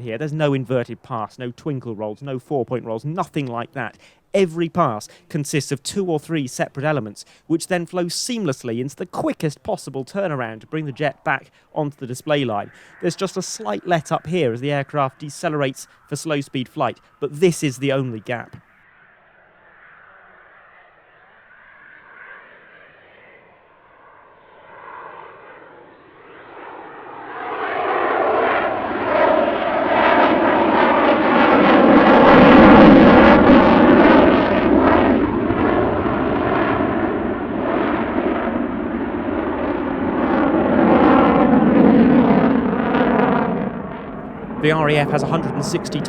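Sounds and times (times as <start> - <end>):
jet engines roaring: 0.0 - 46.0.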